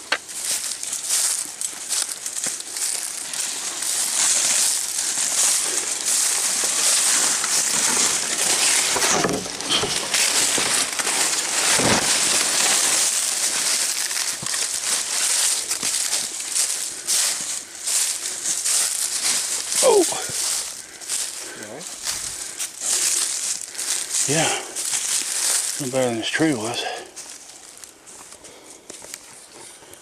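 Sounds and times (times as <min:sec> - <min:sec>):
footsteps crunching through dry brush: 0:00.0 - 0:30.0.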